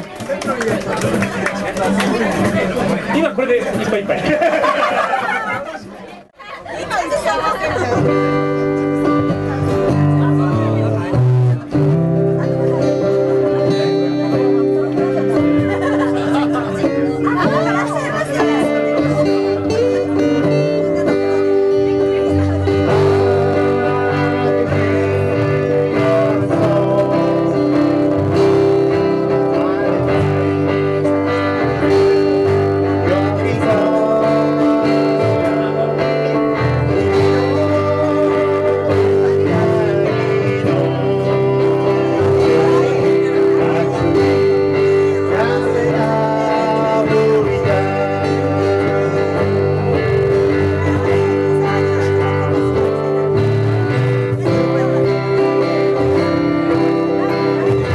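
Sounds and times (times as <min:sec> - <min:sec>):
acoustic guitars playing: 0:00.0 - 0:57.9.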